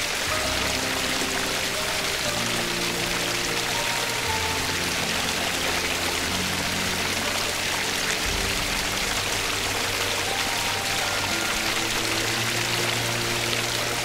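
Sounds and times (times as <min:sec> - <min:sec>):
running water rushing: 0:00.0 - 0:14.0
soft background music: 0:00.0 - 0:14.0.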